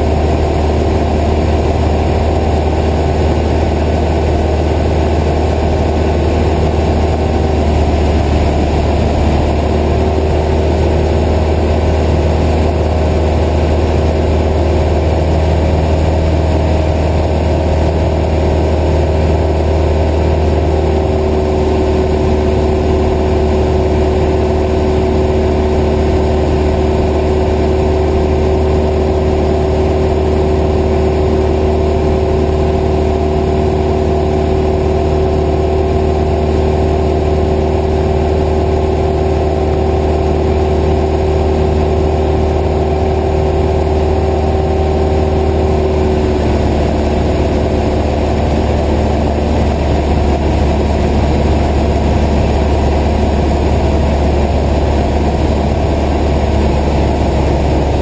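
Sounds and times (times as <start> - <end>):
airplane propeller engine drone: 0.0 - 58.0.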